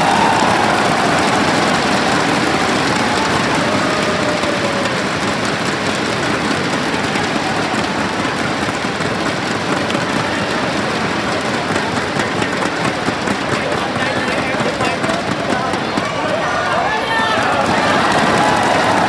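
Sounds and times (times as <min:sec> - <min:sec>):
crowd talking and cheering: 0:00.0 - 0:19.0.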